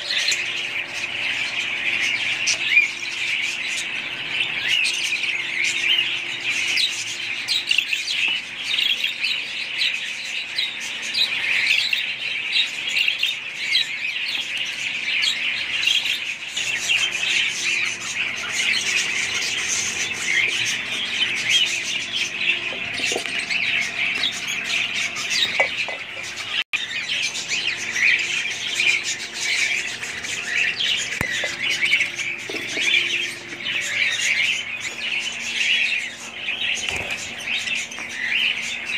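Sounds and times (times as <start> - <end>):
budgerigars chirping and chattering: 0.0 - 38.9.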